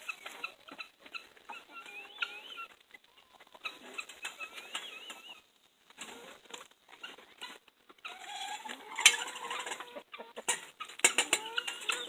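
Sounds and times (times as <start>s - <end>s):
chickens pecking and scratching: 0.0s - 12.0s
drawn-out chicken call: 0.0s - 12.0s.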